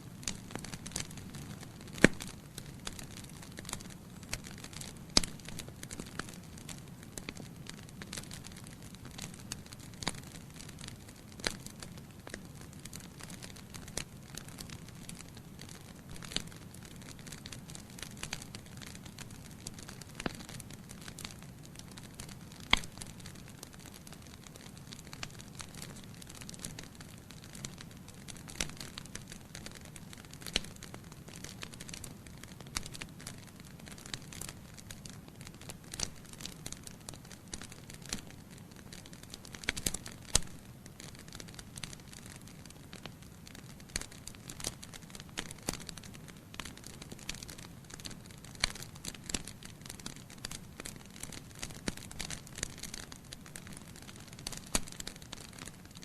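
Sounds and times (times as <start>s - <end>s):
fire rumbling: 0.0s - 56.0s
logs crackling and popping: 0.0s - 56.0s.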